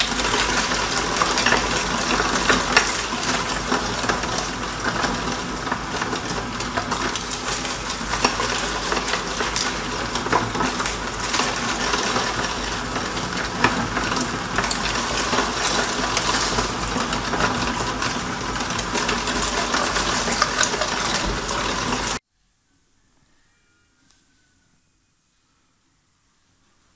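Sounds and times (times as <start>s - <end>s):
meat mincer motor hum: 0.0s - 22.2s.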